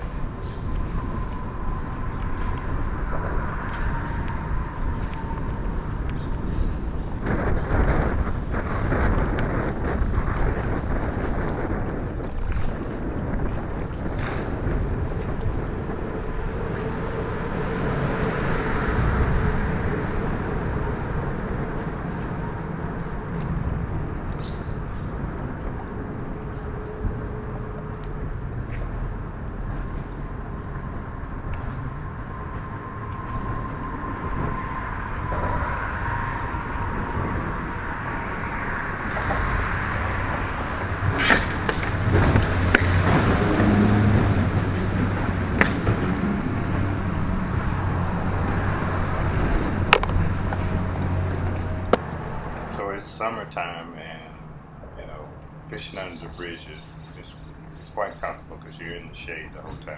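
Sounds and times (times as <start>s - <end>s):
faint hums: 0.0s - 59.9s
road traffic rumble: 0.0s - 59.9s
wind buffeting microphone: 0.0s - 59.9s.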